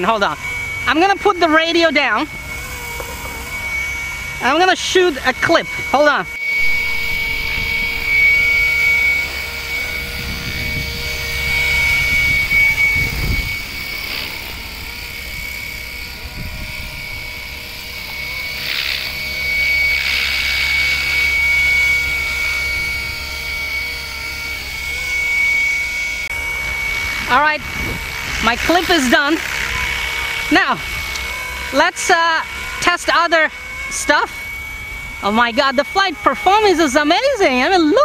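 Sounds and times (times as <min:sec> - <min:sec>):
rc helicopter motor whine: 0:00.0 - 0:38.0
rotor blades whirring: 0:00.0 - 0:38.0.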